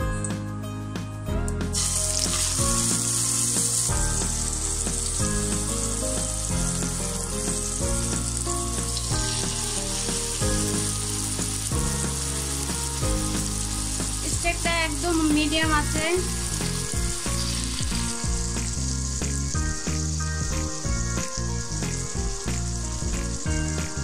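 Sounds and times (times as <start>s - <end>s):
steaks sizzling in frying pan: 1.8s - 24.0s.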